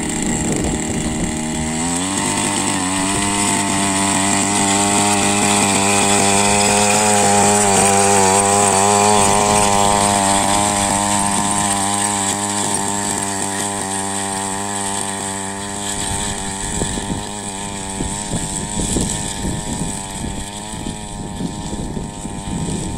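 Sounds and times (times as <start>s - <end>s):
power weeder engine running: 0.0s - 22.9s.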